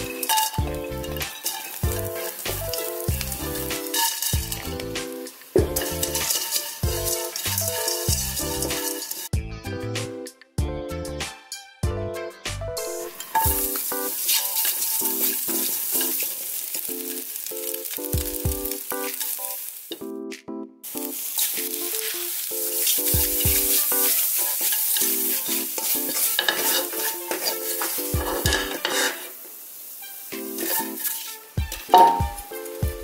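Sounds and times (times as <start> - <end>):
spatula stirring in wok: 0.0 - 9.3, 12.9 - 20.0, 20.9 - 33.0
meat sizzling in a wok: 0.0 - 9.4, 12.8 - 20.1, 20.8 - 33.0.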